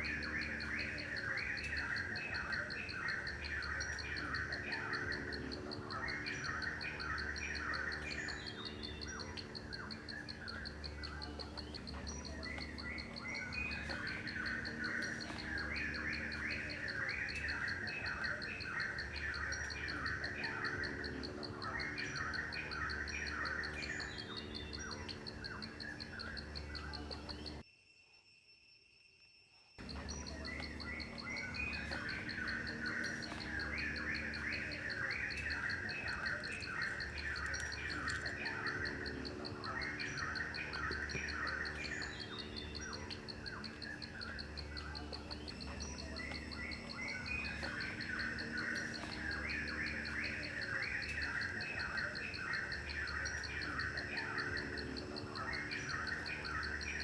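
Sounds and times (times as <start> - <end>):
birds chirping: 0.0 - 27.6, 29.8 - 57.0
insects trilling: 0.0 - 57.0.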